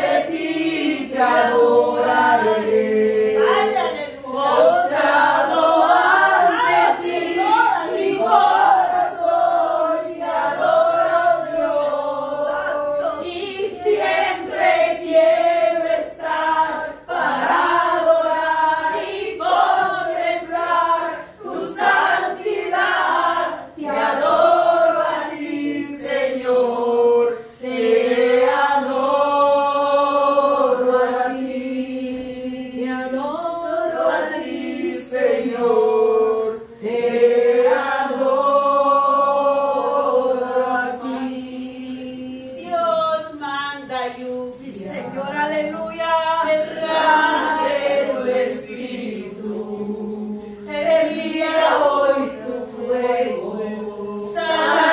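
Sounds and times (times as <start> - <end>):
women singing a worship song: 0.0 - 54.9.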